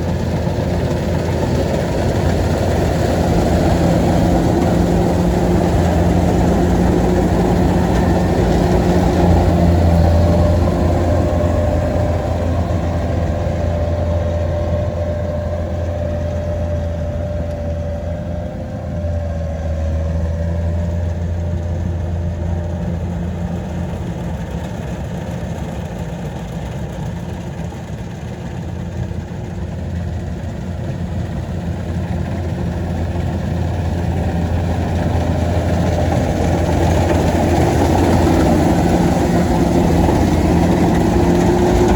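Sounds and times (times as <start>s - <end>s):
combine harvester engine humming: 0.0s - 41.9s.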